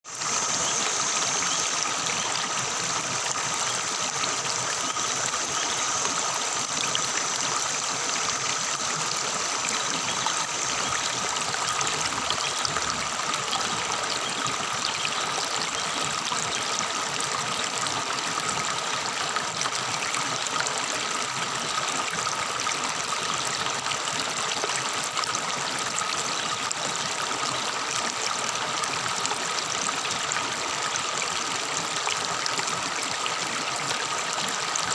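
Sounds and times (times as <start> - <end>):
water babbling over stones: 0.0 - 34.9.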